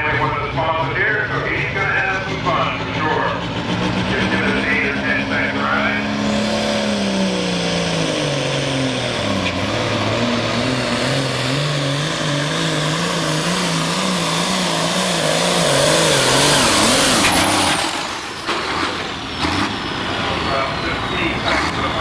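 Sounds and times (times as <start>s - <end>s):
diesel tractor engine under load: 0.0s - 22.0s.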